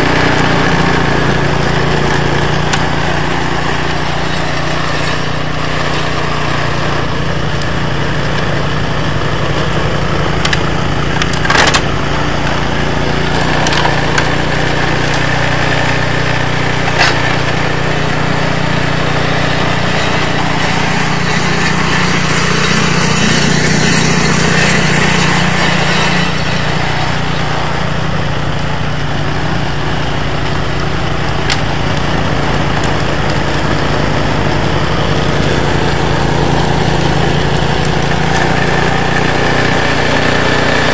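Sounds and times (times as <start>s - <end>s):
auger churning and throwing snow: 0.0s - 40.9s
snowblower engine running: 0.0s - 40.9s.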